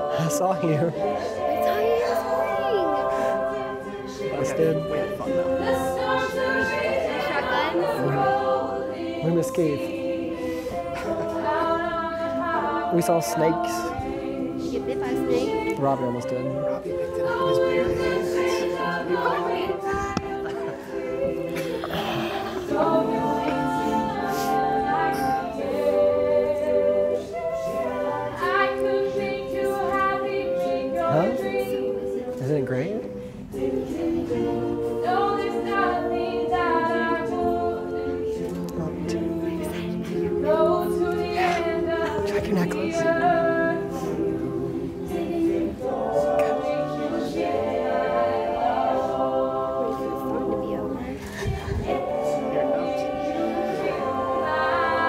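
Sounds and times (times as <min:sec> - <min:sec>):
group of voices singing in harmony: 0:00.0 - 0:55.0.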